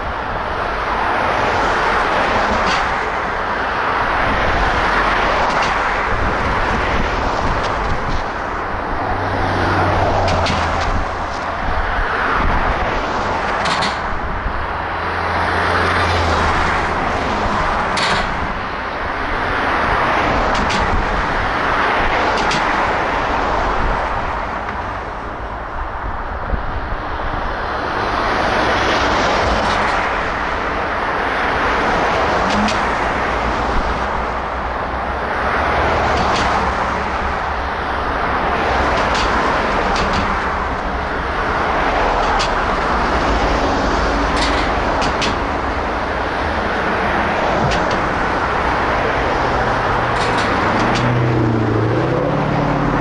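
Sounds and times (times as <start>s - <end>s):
passing vehicles rolling: 0.0s - 53.0s.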